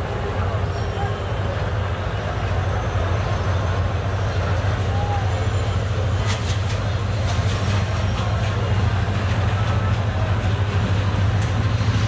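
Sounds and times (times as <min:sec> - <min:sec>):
city noise: 0:00.0 - 0:12.0
diesel locomotive engine drone: 0:00.0 - 0:12.0.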